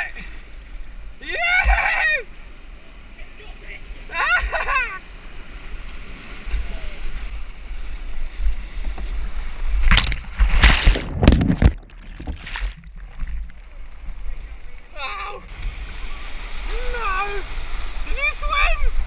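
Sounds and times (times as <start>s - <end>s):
heavy water splashes: 0.0s - 19.0s
rushing white water: 0.0s - 19.0s.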